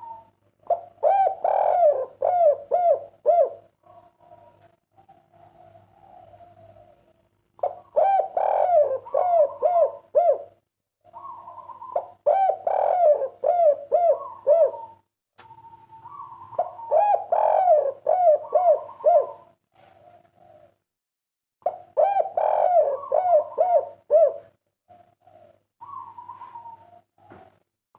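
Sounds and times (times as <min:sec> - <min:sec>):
dove cooing: 0:00.0 - 0:20.8, 0:21.6 - 0:27.6.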